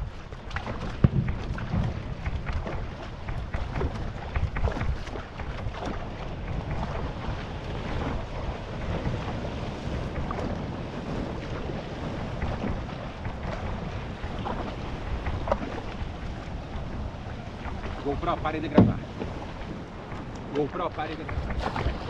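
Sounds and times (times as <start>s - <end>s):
water splashing around canoe: 0.0s - 22.0s
wind buffeting microphone: 0.0s - 22.0s.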